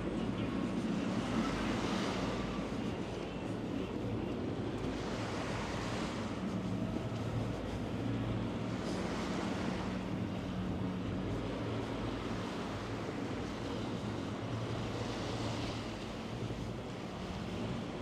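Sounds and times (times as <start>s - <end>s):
low engine-like hum: 0.0s - 18.0s
water: 0.0s - 18.0s
wind: 0.0s - 18.0s.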